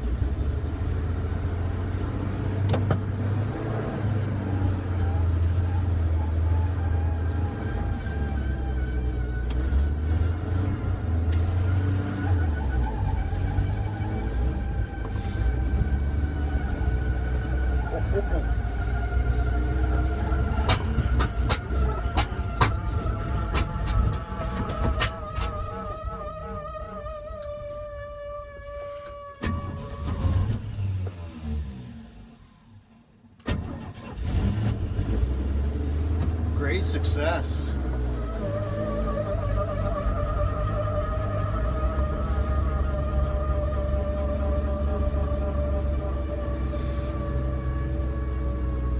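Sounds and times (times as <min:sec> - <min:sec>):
engine droning: 0:00.0 - 0:48.9.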